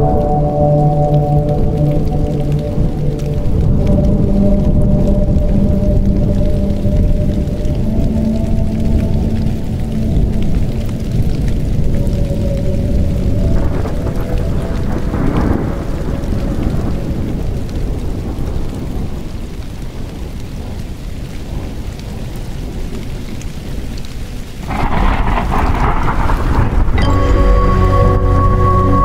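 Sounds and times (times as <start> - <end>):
rain hissing: 0.0 - 29.0
rolling thunder: 0.8 - 23.9, 24.6 - 29.0.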